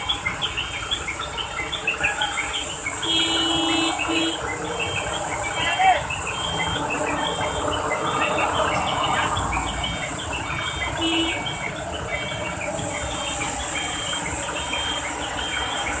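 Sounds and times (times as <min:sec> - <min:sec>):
rushing outdoor background: 0:00.0 - 0:16.0.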